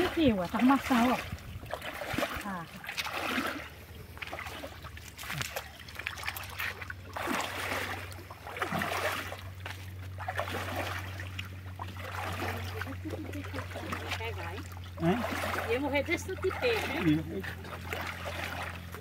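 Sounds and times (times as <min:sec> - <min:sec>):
low hum: 0:00.0 - 0:19.0
pond water splashing: 0:00.0 - 0:19.0.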